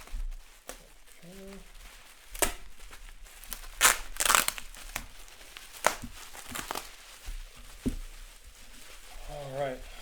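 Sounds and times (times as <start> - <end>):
sharp plastic crackles: 0.0 - 9.2
plastic wrapping crinkling: 0.0 - 10.0.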